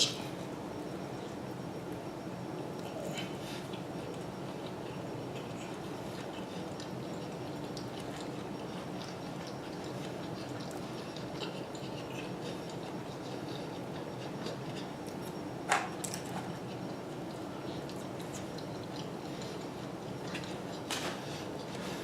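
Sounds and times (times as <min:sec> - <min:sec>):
person chewing: 0:02.8 - 0:15.4, 0:16.6 - 0:22.0.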